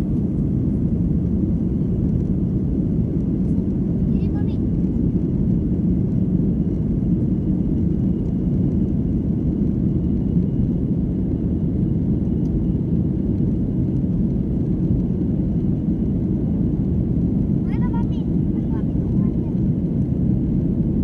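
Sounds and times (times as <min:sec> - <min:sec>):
airliner engine rumble in cabin: 0:00.0 - 0:21.0.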